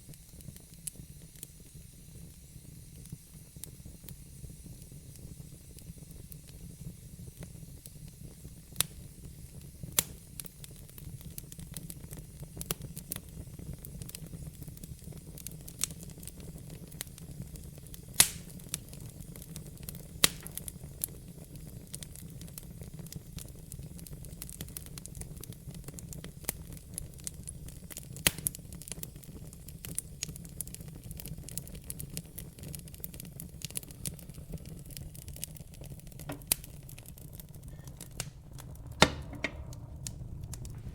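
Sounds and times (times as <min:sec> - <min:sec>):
log fire crackling and popping: 0:00.0 - 0:40.9.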